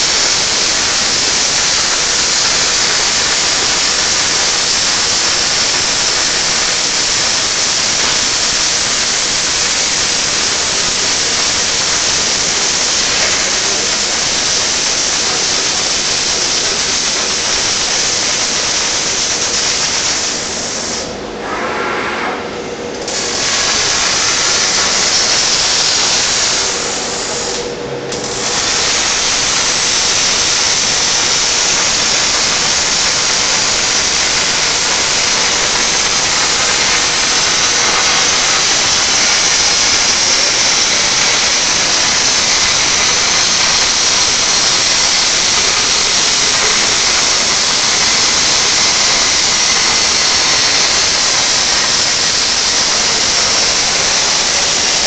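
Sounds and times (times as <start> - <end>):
welding arc sizzling: 0.0 - 21.3, 22.9 - 55.0.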